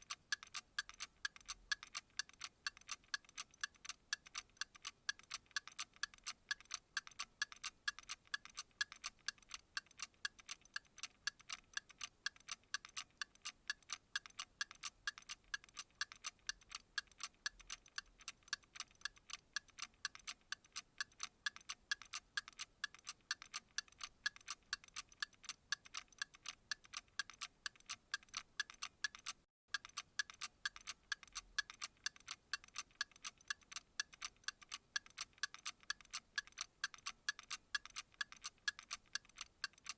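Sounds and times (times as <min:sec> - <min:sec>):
steady light ticking: 0:00.0 - 0:39.9.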